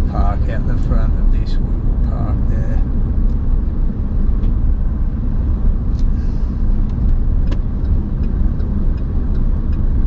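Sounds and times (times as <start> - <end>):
car driving slowly: 0.0 - 10.0.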